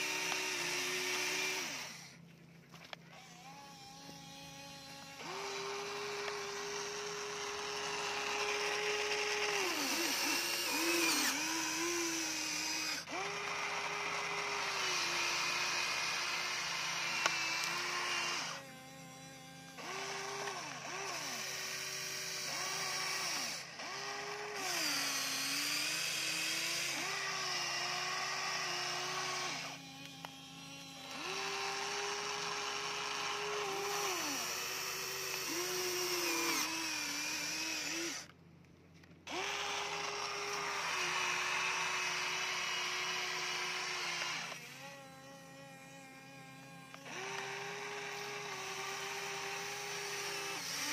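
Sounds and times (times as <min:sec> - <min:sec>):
small electric motors whining: 0:00.0 - 0:38.4, 0:39.0 - 0:50.9.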